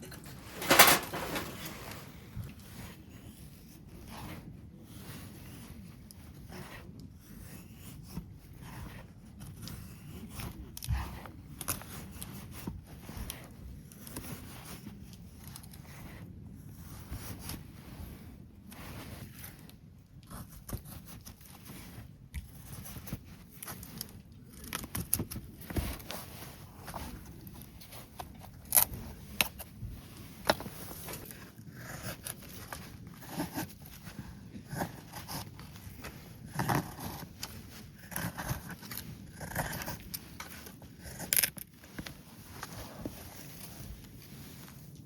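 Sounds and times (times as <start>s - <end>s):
handling noise rustling: 0.0s - 3.3s, 8.5s - 45.0s.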